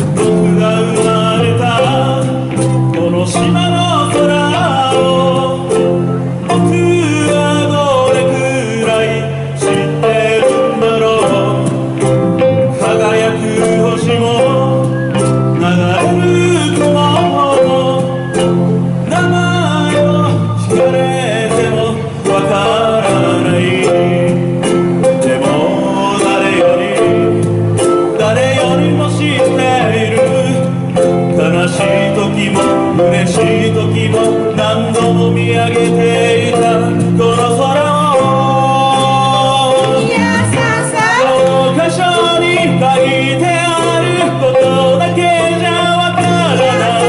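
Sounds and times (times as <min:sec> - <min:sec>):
man singing into a microphone: 0:00.0 - 0:47.0
sanshin playing: 0:00.0 - 0:47.0
ukuleles strumming: 0:00.0 - 0:47.0.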